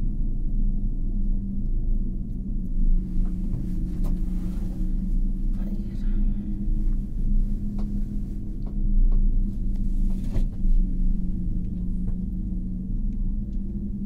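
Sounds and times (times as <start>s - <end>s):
cable car cabin hum and rumble: 0.0s - 14.0s.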